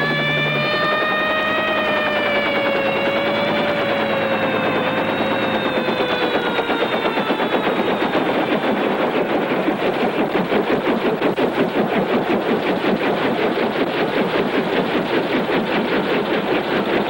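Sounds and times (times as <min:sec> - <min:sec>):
falling whine: 0:00.0 - 0:17.0
helicopter rotor chopping: 0:00.0 - 0:17.0.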